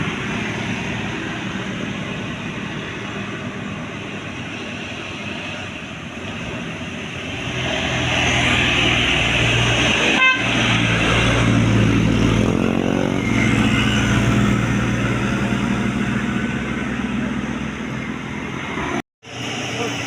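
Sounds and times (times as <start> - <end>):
heavy vehicle engine: 0.0 - 20.0
tyre noise on road: 0.0 - 20.0.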